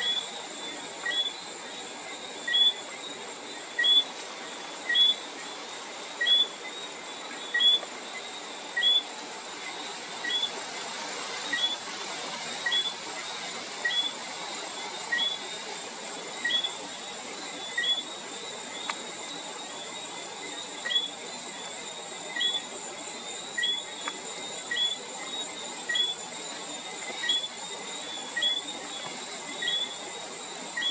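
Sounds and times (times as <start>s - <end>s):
frogs whistling: 0.0s - 30.9s
high-pitched insect trill: 0.0s - 30.9s.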